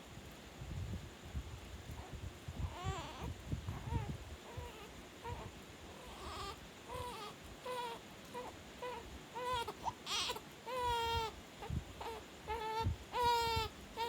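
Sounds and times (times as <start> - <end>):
baby whimpering cries: 2.6 - 14.0.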